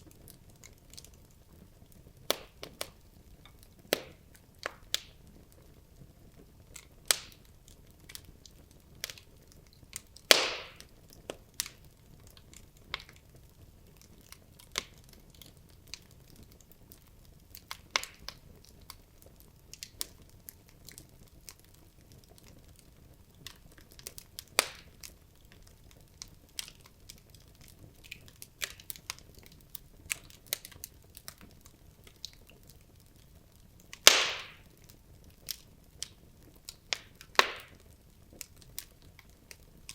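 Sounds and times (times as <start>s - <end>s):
burning logs crackling and popping: 0.0s - 39.9s.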